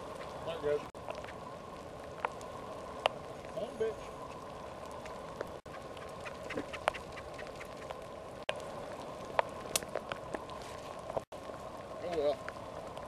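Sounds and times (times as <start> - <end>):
light rain pattering: 0.0 - 13.0
raindrops ticking close by: 0.0 - 13.0.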